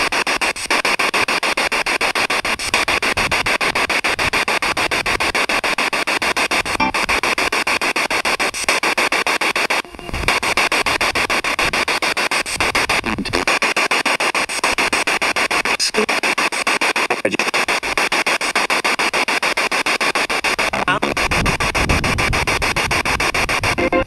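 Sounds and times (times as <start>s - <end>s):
radio static scanning in steps: 0.0s - 24.0s.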